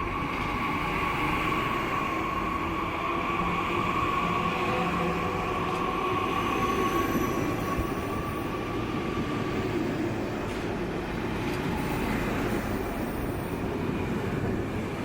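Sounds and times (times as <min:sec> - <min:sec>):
faint train whine: 0:00.0 - 0:15.0
train rumbling: 0:00.0 - 0:15.0.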